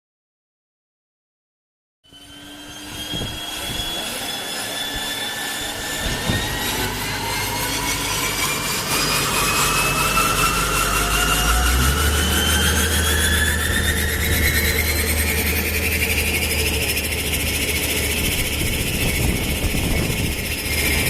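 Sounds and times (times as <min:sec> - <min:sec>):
turboprop engine whine: 0:02.0 - 0:21.0.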